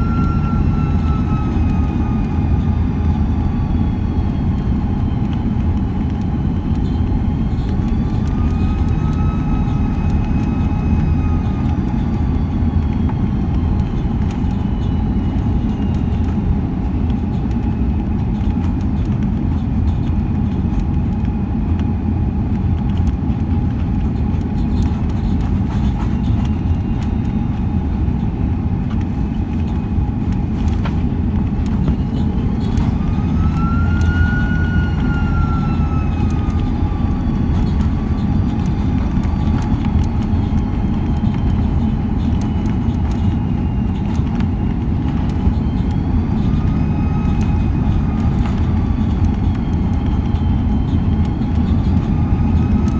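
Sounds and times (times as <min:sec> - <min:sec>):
engine whining tones: 0:00.0 - 0:52.9
jet engine roar in cabin: 0:00.0 - 0:52.9.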